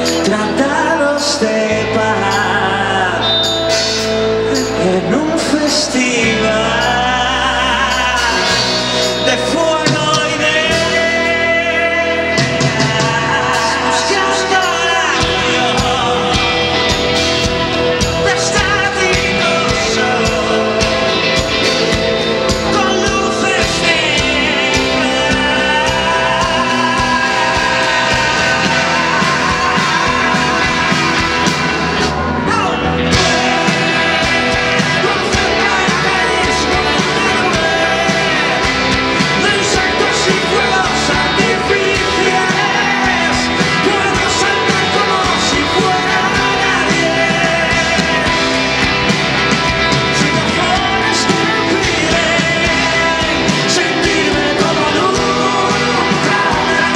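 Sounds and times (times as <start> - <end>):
live rock band playing: 0.0 - 56.9.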